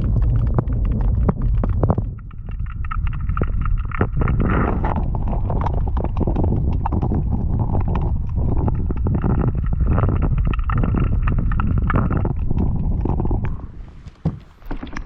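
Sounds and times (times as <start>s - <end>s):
wind buffeting microphone: 0.0s - 14.3s
knocks and crunches: 0.0s - 15.0s.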